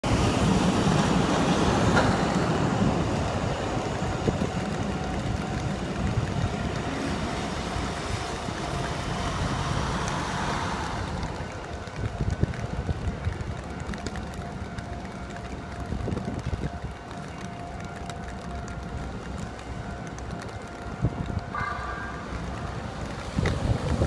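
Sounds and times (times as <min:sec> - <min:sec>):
wind noise: 0:00.0 - 0:17.9, 0:18.6 - 0:24.0
electric train rumbling on rails: 0:00.0 - 0:24.0
road traffic: 0:00.0 - 0:24.0.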